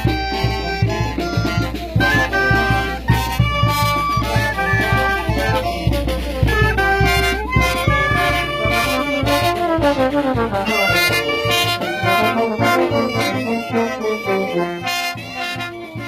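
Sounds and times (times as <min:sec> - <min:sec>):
brass band music: 0:00.0 - 0:16.0.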